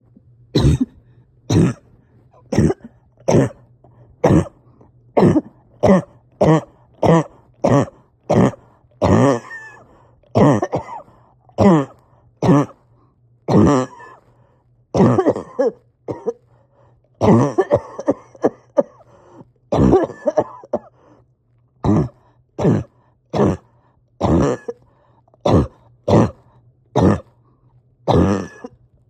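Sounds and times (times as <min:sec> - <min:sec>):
person coughing: 0:00.6 - 0:12.8, 0:13.5 - 0:14.4, 0:15.0 - 0:16.6, 0:17.2 - 0:21.0, 0:21.8 - 0:26.4, 0:27.0 - 0:27.4, 0:28.1 - 0:28.8
labored breathing: 0:00.8 - 0:14.9, 0:16.4 - 0:28.9.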